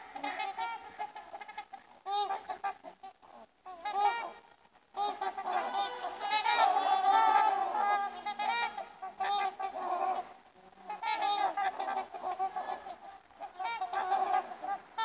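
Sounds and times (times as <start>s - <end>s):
swans honking: 0.0s - 15.0s.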